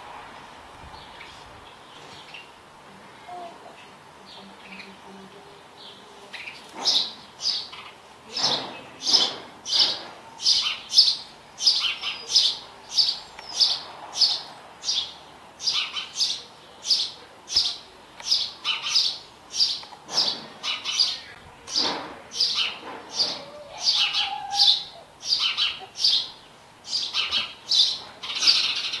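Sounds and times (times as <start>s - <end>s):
sparrow chirping: 5.8s - 29.0s.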